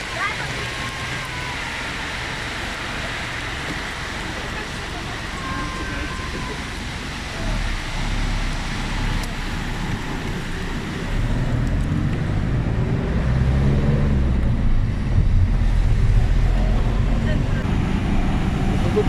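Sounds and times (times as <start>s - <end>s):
bus engine running: 0.0s - 19.0s
road noise: 0.0s - 19.0s.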